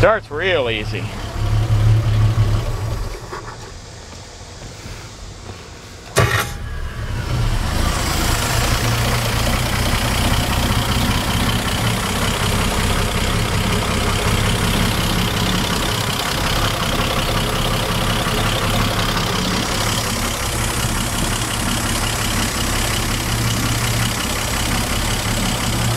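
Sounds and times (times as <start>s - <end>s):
boat engine starting and idling: 0.0s - 25.9s.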